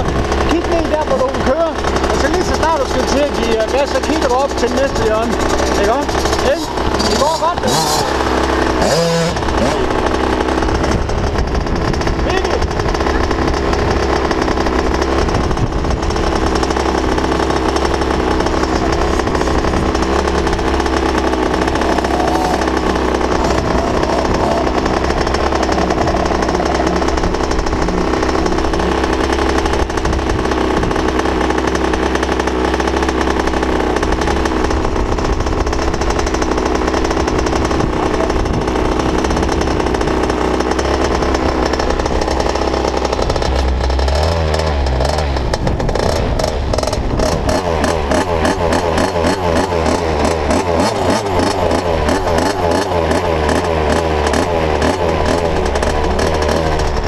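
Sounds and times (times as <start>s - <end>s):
motorbike engine idling: 0.0s - 57.0s.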